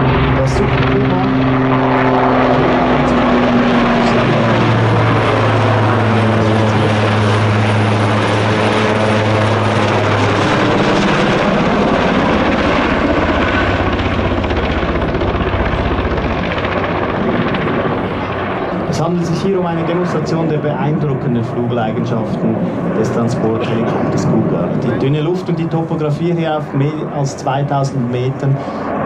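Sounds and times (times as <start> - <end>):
helicopter rotors droning: 0.0 - 29.0.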